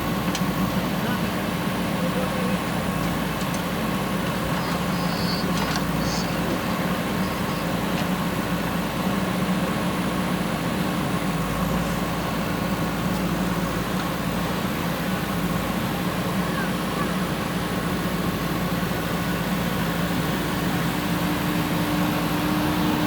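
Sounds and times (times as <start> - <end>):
diesel engine running steadily: 0.0 - 23.0.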